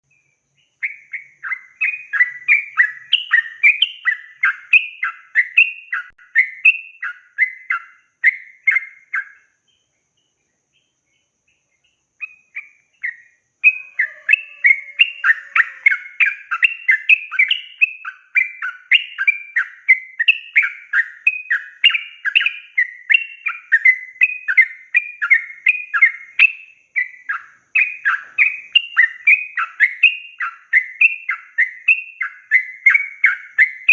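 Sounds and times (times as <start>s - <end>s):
bird singing whistled notes: 0.0s - 33.9s.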